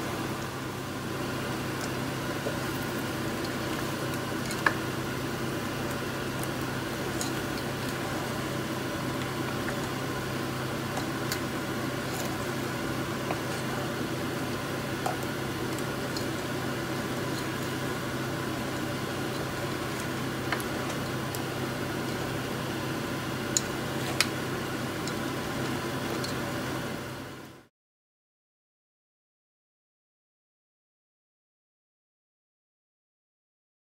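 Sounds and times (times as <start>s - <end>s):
low hum and hiss: 0.0s - 27.7s.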